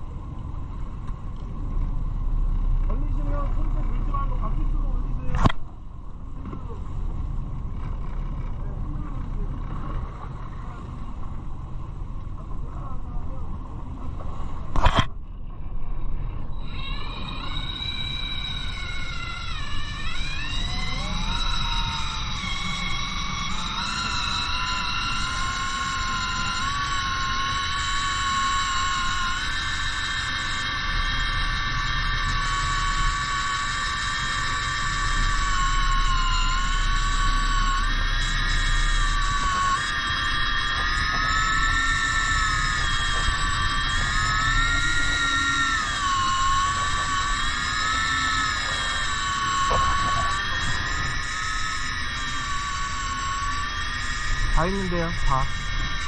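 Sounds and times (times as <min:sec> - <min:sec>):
fishing reel motor whining: 0:00.0 - 0:56.0
low rumble: 0:00.0 - 0:56.0.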